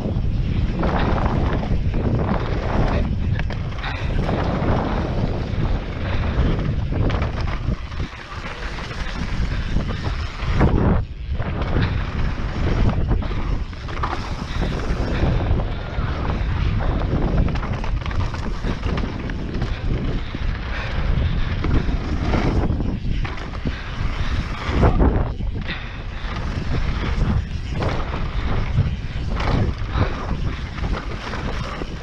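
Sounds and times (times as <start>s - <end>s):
bike knocking and rattling: 0.0s - 32.0s
wind buffeting microphone: 0.0s - 32.0s.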